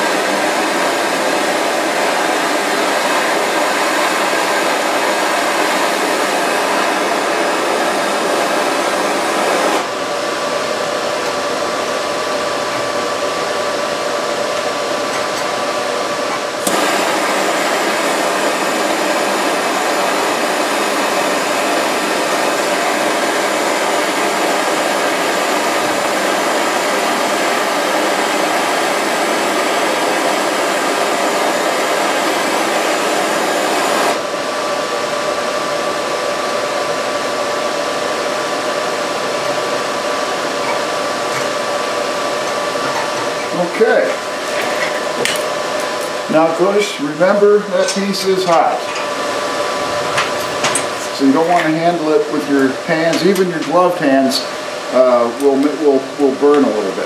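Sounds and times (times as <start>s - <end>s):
gas torch flame hissing: 0.0s - 57.0s.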